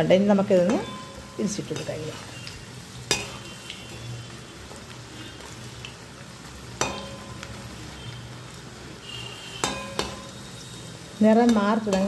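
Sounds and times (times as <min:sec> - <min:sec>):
deep-frying sizzle in hot oil: 0:00.0 - 0:12.0.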